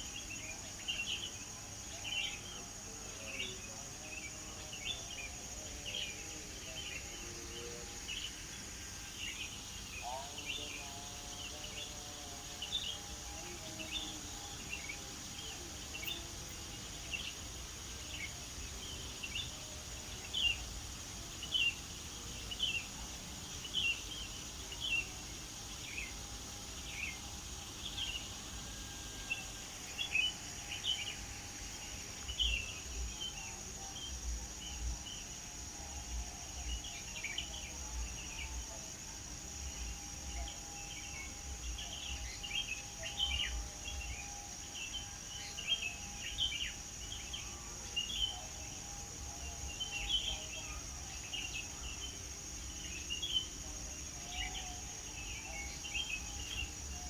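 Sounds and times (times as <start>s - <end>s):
insects droning: 0.0s - 57.0s
songbirds chirping: 0.0s - 57.0s.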